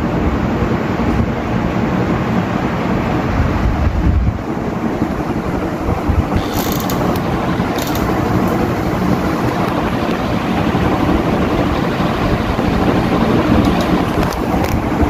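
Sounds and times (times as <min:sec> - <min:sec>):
ceiling fan air rush: 0:00.0 - 0:15.0.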